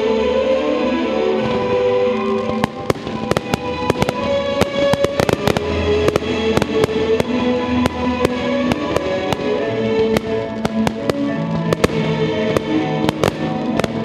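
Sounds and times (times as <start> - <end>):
music with long held notes: 0.0 - 14.0
fireworks bangs and crackles: 1.2 - 14.0.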